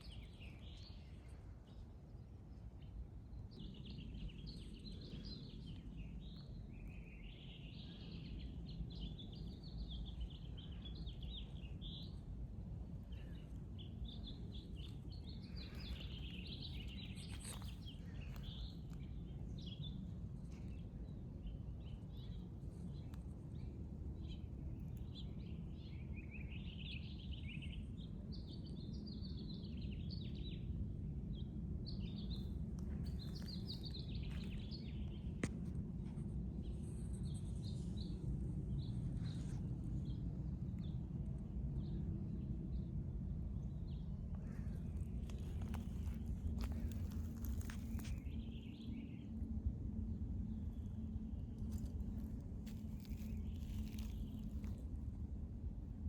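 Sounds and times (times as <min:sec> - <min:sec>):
songbirds chirping: 0:00.0 - 0:41.0, 0:43.6 - 0:49.5, 0:50.5 - 0:55.0
low background rumble: 0:00.0 - 0:56.0.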